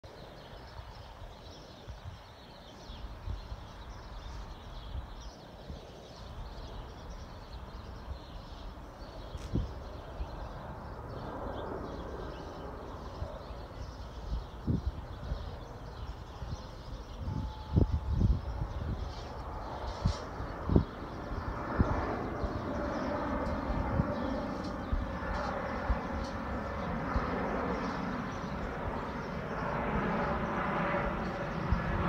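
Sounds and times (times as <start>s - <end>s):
small birds chirping: 0.1s - 32.0s.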